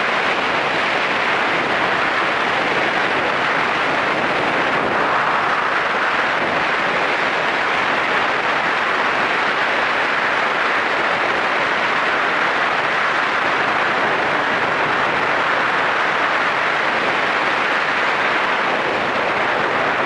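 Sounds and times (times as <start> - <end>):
motorcycle engine and road noise: 0.0 - 20.0
wind rushing over microphone: 0.0 - 20.0.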